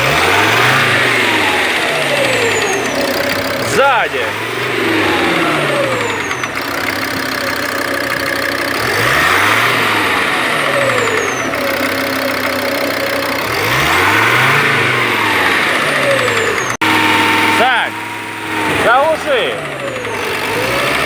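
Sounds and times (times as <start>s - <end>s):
van engine revving: 0.0s - 21.0s.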